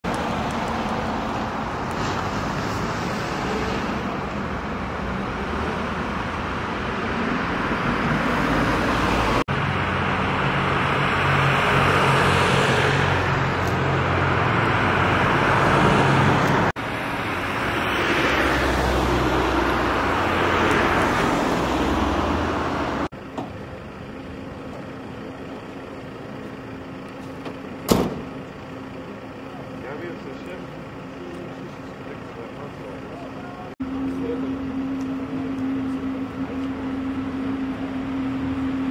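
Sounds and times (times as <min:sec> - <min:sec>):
cars passing: 0:00.0 - 0:38.9
steady low traffic hum: 0:00.1 - 0:38.9.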